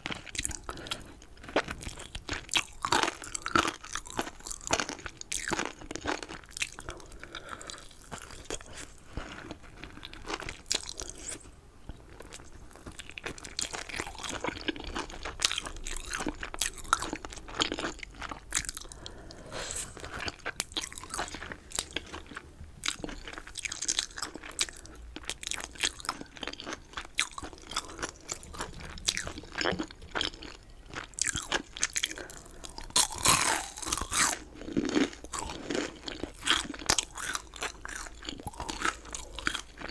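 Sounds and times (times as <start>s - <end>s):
crisp chewing crunches: 0.1s - 39.9s.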